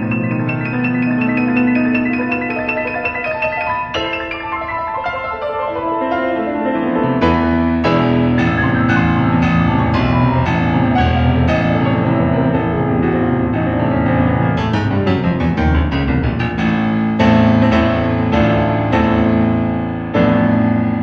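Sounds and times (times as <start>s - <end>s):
solo classical piano: 0.0s - 21.0s.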